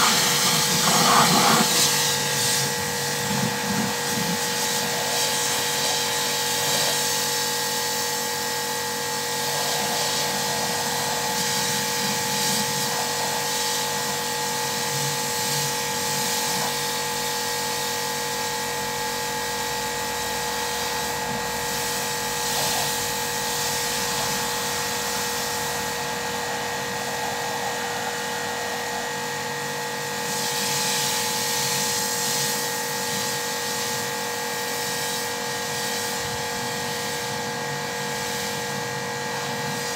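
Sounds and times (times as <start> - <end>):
high-pressure water jet hissing: 0.0 - 39.9
pressure washer motor whining: 0.0 - 39.9.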